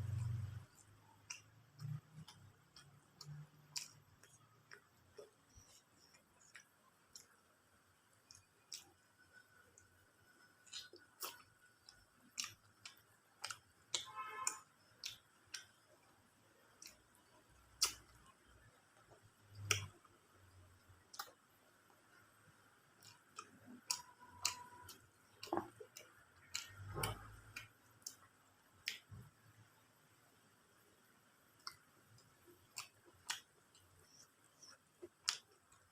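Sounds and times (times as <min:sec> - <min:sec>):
chewing clicks and smacks: 0:00.0 - 0:29.6, 0:31.5 - 0:35.9.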